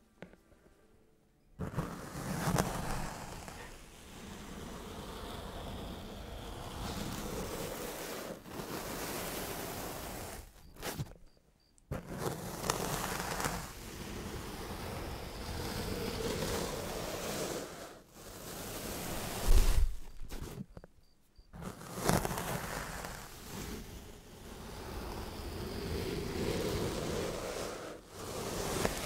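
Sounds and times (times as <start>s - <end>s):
sand rustling and crumbling: 1.6s - 11.3s, 11.9s - 20.8s, 21.5s - 29.0s.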